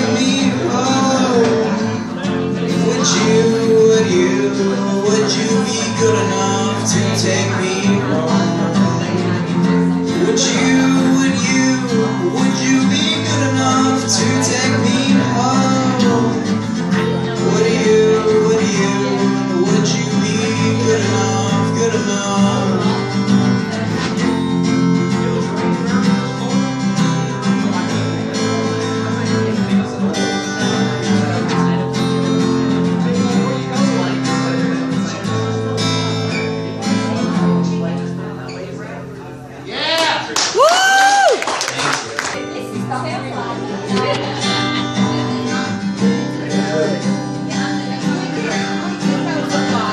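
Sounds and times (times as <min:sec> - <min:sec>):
acoustic guitar strumming: 0:00.0 - 0:40.4, 0:41.2 - 0:49.9.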